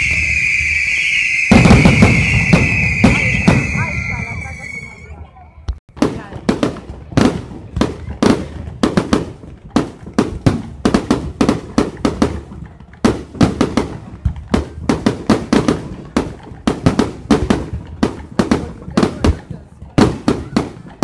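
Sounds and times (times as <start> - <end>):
fireworks bangs: 0.0 - 5.3, 5.9 - 21.0.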